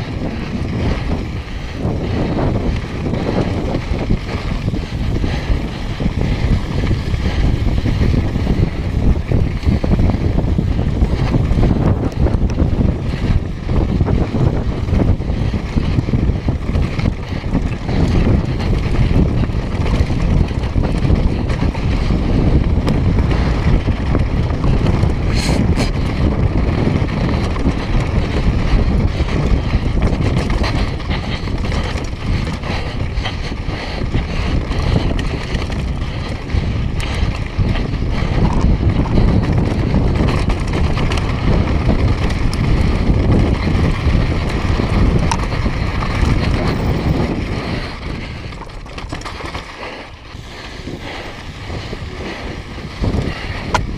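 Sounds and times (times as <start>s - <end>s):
bike rattling: 0.0s - 53.9s
bike tyres on rocky dirt trail: 0.0s - 53.9s
wind buffeting microphone: 0.0s - 53.9s.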